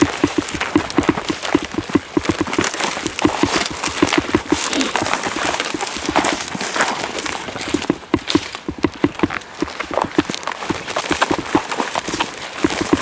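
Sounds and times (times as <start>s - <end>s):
footsteps through grass: 0.0s - 13.0s
vegetation rustling: 0.0s - 13.0s.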